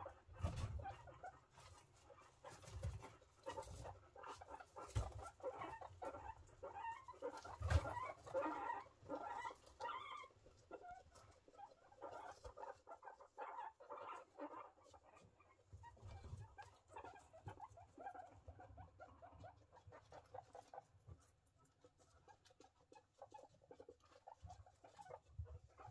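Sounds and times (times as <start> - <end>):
guinea pigs chuttering: 0.0 - 25.9
guinea pigs squeaking: 0.0 - 25.9.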